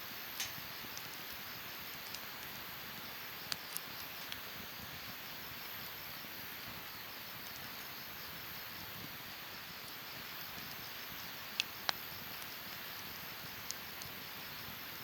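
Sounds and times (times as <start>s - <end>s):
faint insect chirping: 0.0s - 15.0s
wood fire hissing and crackling: 0.0s - 15.0s.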